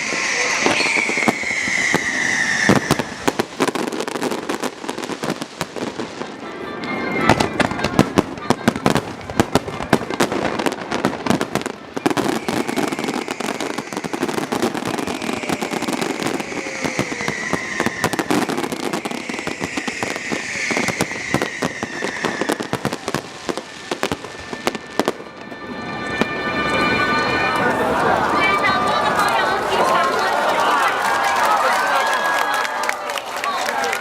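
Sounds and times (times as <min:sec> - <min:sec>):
fireworks bangs and crackles: 0:00.0 - 0:32.5.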